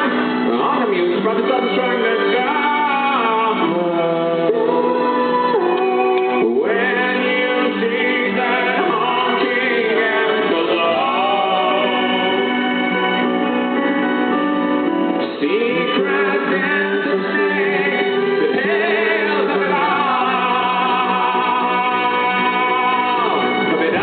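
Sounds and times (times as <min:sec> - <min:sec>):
man singing long notes: 0:00.0 - 0:13.0, 0:15.2 - 0:24.0
rock band playing live: 0:00.0 - 0:24.0.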